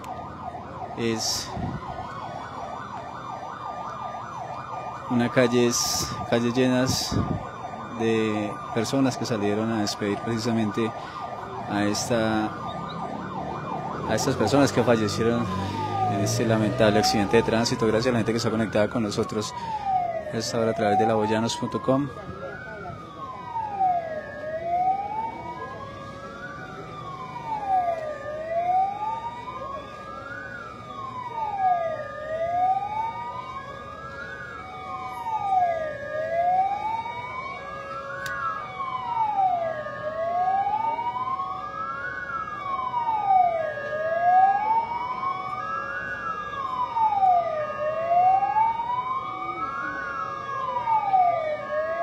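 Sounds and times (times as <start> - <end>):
emergency siren wailing: 0.0 - 52.0.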